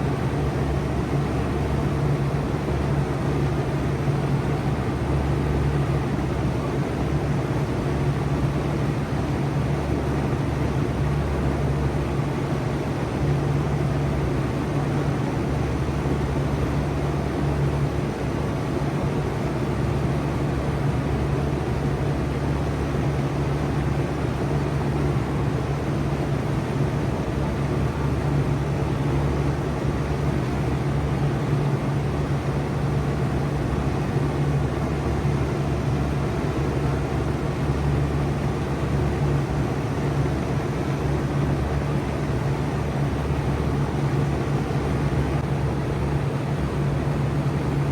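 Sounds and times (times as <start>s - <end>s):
fan airflow rushing: 0.0s - 47.9s.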